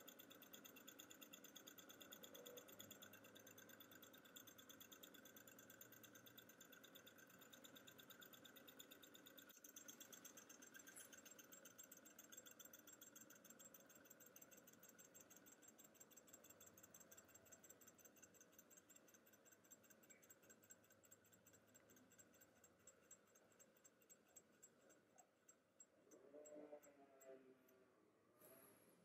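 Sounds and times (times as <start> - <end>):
faint rhythmic engine ticking: 0.0 - 29.0.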